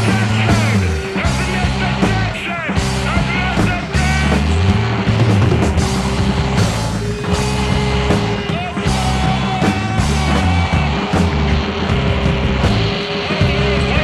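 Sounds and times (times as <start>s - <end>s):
noise rock music: 0.0s - 14.0s.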